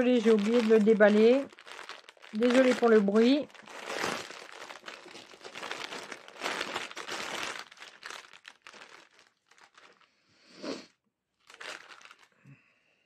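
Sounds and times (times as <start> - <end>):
plastic bag crinkling: 0.0 - 10.2, 11.4 - 12.5.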